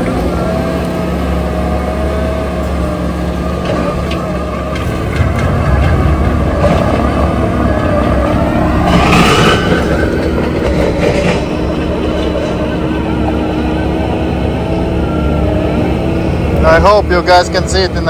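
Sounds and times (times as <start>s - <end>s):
skid steer grinding stumps: 0.0s - 18.0s.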